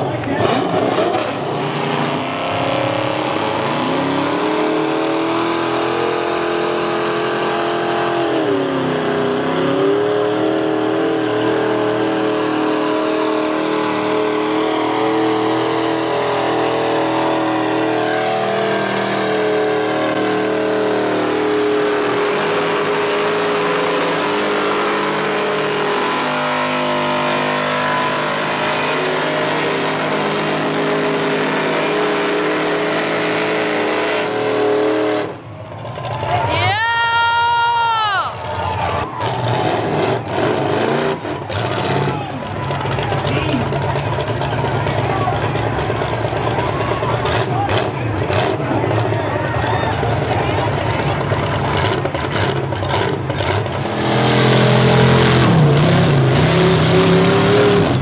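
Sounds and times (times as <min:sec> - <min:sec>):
truck engine at high revs: 0:00.0 - 0:58.0.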